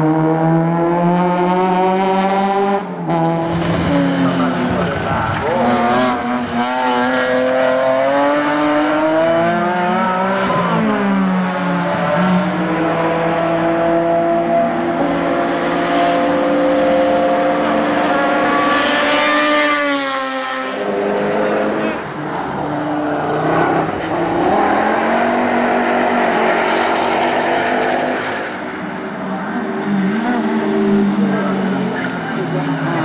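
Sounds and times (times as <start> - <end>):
racing car engines revving: 0.0 - 33.0.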